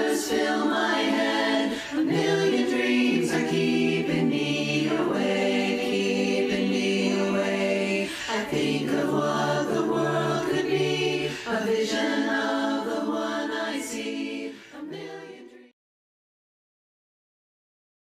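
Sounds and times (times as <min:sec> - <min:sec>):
women's choir singing chords: 0:00.0 - 0:15.7.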